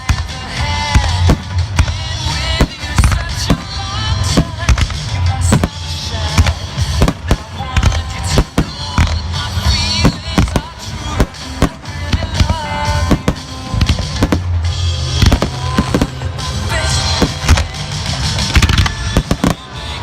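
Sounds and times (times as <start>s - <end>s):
fireworks banging: 0.0s - 20.0s
loud music over sound system: 0.0s - 20.0s.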